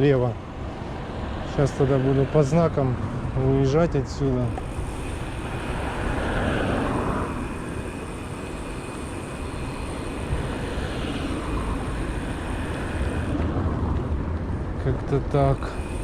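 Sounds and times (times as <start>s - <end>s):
wind rushing over microphone: 0.4s - 15.9s
steady low rumble: 1.5s - 16.0s.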